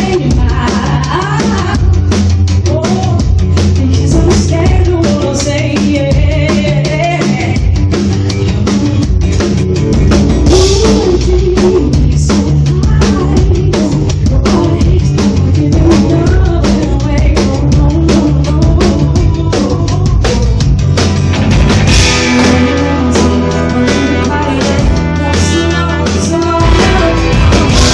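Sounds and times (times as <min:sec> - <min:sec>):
drum kit beat: 0:00.0 - 0:27.9
sustained bass notes: 0:00.0 - 0:27.9.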